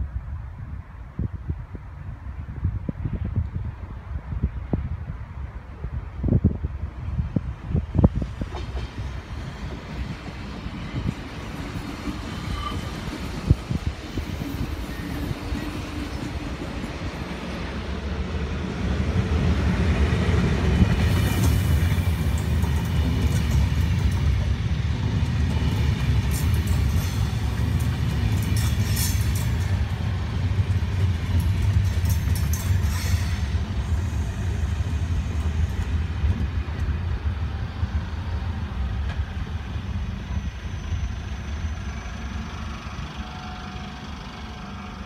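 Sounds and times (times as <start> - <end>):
train wheels rumbling on rails: 1.2 - 45.0.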